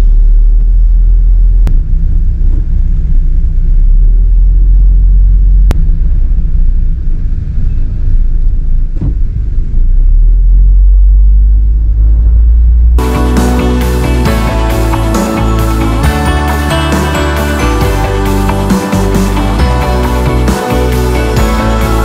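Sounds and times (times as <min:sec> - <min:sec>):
van road and engine rumble: 0:00.0 - 0:22.0.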